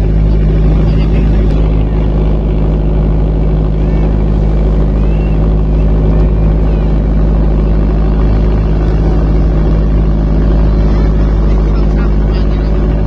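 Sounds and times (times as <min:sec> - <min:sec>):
motor boat engine drone: 0:00.0 - 0:13.0.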